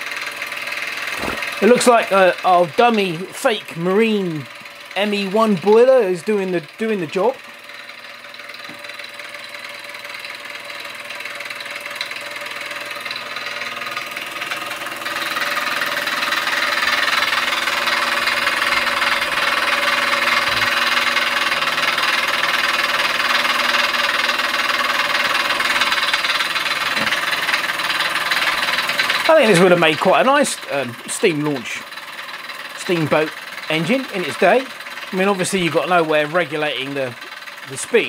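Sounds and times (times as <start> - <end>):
steam engine knocking: 0.0 - 38.0.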